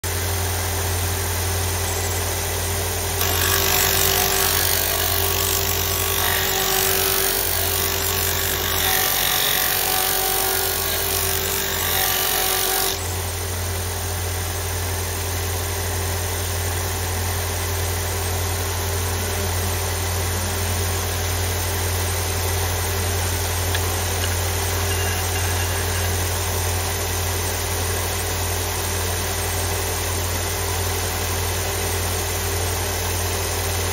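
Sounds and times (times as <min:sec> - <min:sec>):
sander motor hum: 0:00.0 - 0:15.8, 0:16.4 - 0:33.9.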